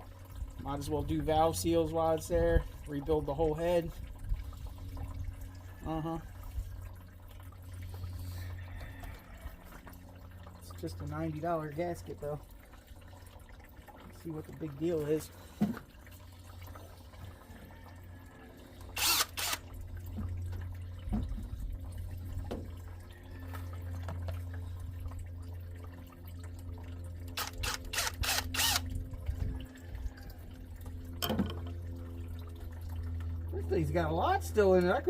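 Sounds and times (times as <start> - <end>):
faint dripping: 0.0 - 27.8, 29.2 - 35.0.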